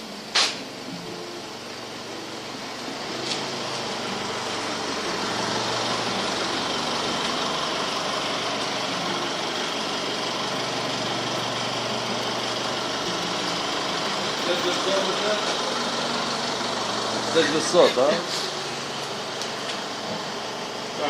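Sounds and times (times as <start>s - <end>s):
car engine hum: 0.0s - 21.0s.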